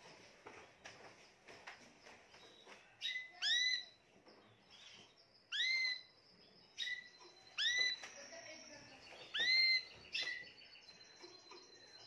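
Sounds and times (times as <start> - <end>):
canary singing: 2.3 - 12.0.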